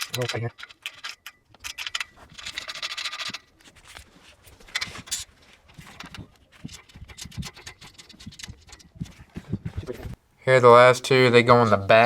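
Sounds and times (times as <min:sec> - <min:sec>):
screws and washers rattling: 0:00.0 - 0:10.2.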